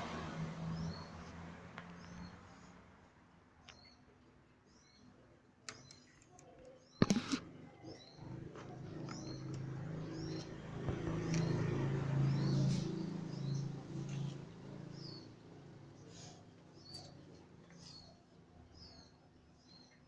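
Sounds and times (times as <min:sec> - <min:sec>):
small birds chirping: 0:00.7 - 0:02.8, 0:03.6 - 0:20.0.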